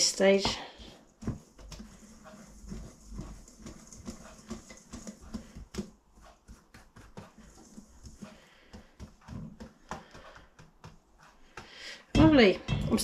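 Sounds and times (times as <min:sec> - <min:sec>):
utensil tapping and scraping bowl: 0:00.0 - 0:13.0.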